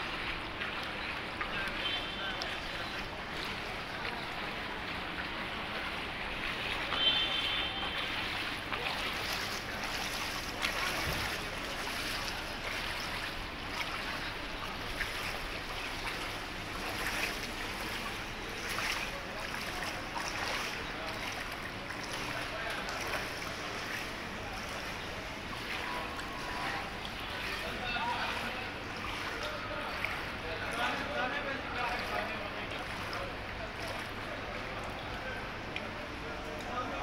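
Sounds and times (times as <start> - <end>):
floodwater sloshing and splashing: 0.0 - 37.0.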